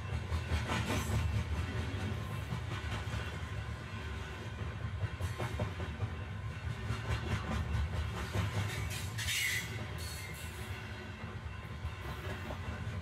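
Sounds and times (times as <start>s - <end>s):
steam train low rumble: 0.0s - 13.0s.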